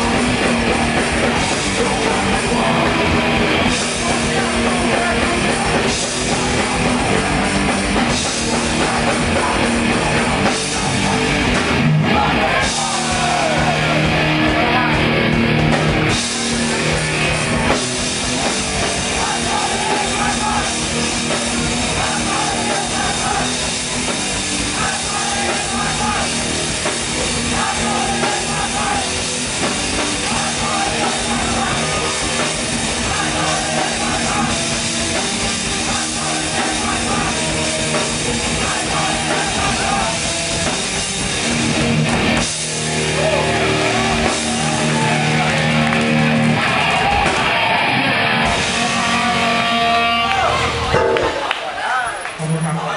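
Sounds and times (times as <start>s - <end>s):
distorted guitars: 0.0s - 52.9s
hardcore band playing live: 0.0s - 52.9s
pounding drum kit: 0.0s - 52.9s.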